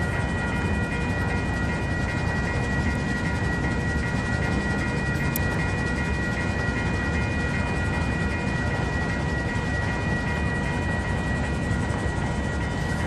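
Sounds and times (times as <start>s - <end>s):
constant low rumble: 0.0s - 13.0s
level-crossing warning bell: 0.0s - 13.0s.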